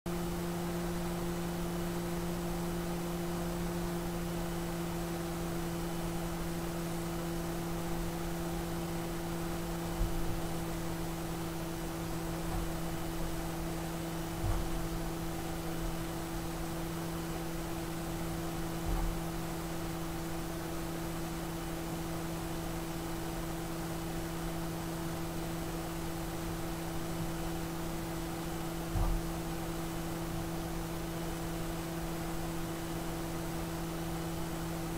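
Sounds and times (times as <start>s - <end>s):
electrical hum: 0.1s - 34.9s.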